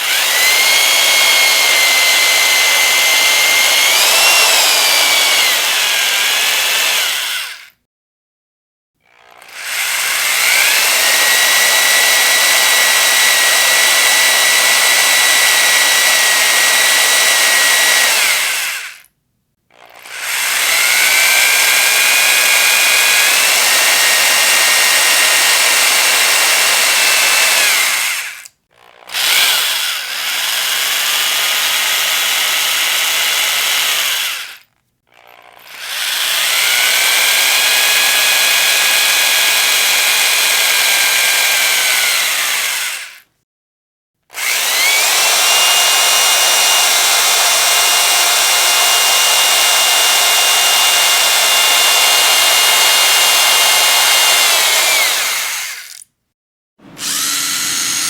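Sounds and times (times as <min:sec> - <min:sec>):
electric power drill whining: 0:00.0 - 0:07.8, 0:09.0 - 0:19.1, 0:19.7 - 0:43.3, 0:44.3 - 0:56.1, 0:56.8 - 0:58.0.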